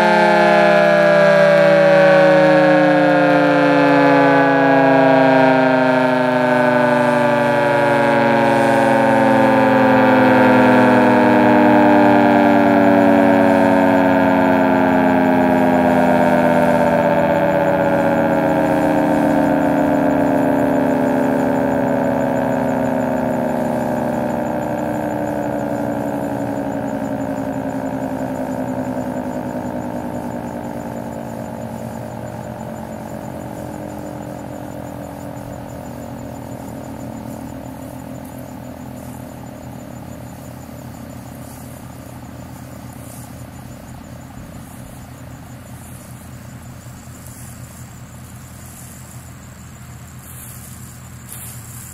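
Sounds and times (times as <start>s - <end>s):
warning siren winding down: 0.0s - 51.9s.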